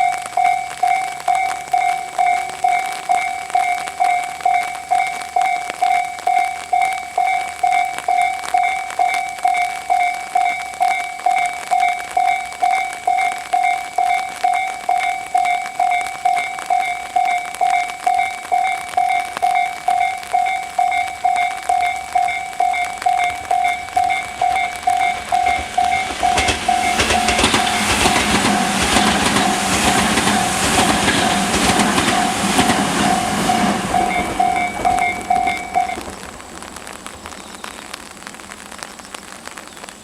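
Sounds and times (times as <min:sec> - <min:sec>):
train wheels clacking: 0:00.0 - 0:36.0
level crossing warning bell: 0:00.0 - 0:36.1.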